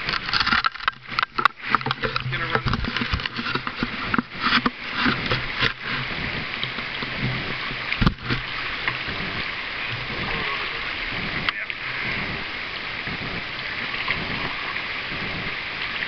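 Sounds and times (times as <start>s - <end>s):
knocks and splashes: 0.0s - 16.0s
river water rushing over stones: 0.0s - 16.0s.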